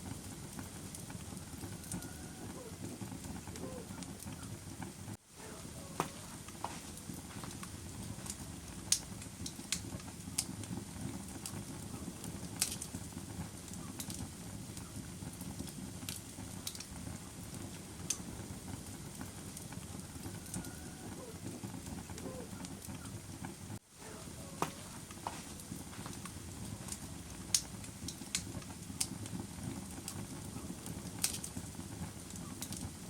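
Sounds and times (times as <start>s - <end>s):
bonfire crackling: 0.0s - 33.0s.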